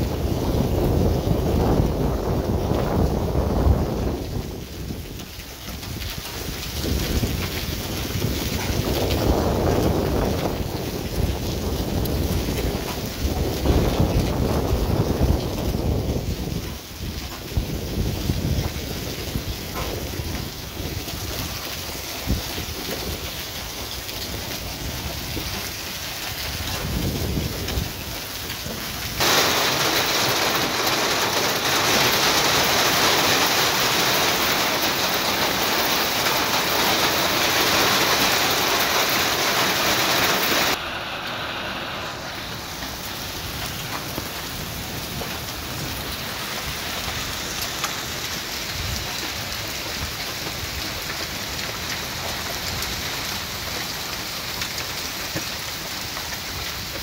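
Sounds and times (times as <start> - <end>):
hail and heavy rain: 0.0 - 57.0.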